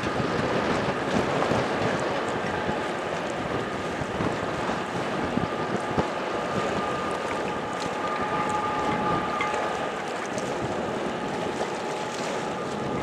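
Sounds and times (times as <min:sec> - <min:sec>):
water rushing along hull: 0:00.0 - 0:13.0
wind buffeting microphone: 0:00.0 - 0:13.0
faint steady whine: 0:02.0 - 0:13.0.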